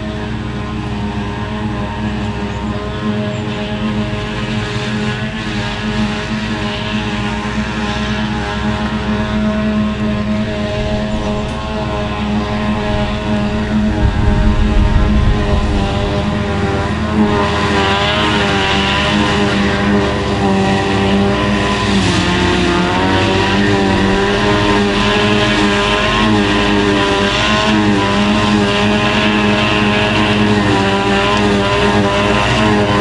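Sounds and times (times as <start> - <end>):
forage harvester engine drone: 0.0 - 33.0
tractor engine running: 0.0 - 33.0.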